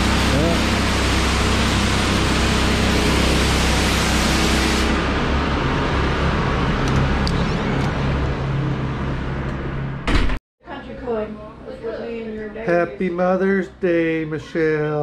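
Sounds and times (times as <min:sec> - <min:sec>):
ventilation hum: 0:00.0 - 0:15.0.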